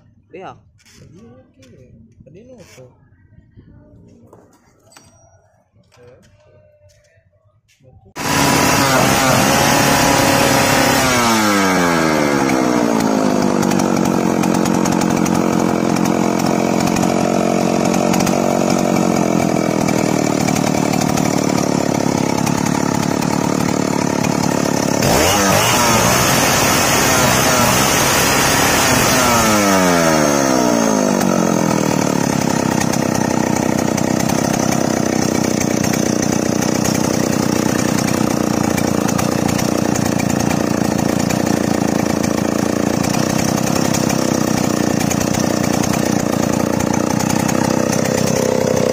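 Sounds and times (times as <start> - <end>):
chainsaw engine idling and revving: 8.1 - 48.9.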